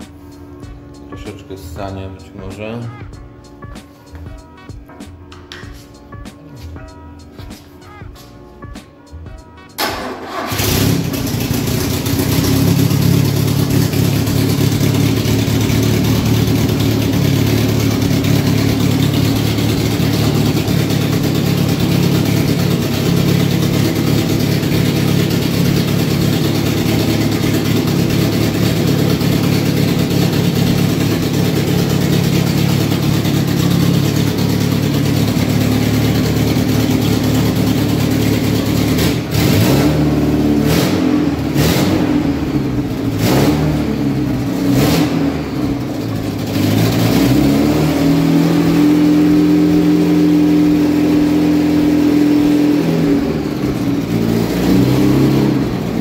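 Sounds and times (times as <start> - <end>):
four-cylinder engine running: 8.6 - 56.0.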